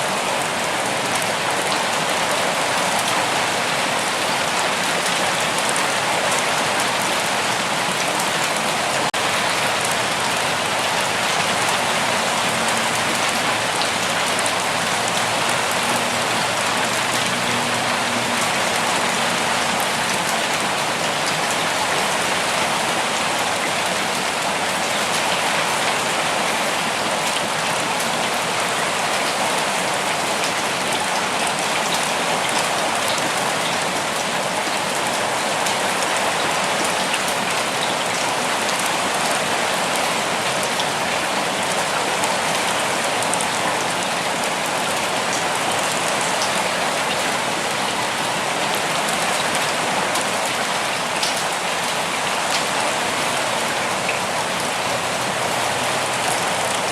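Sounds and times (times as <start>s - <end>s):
rain falling on foliage: 0.0s - 56.9s.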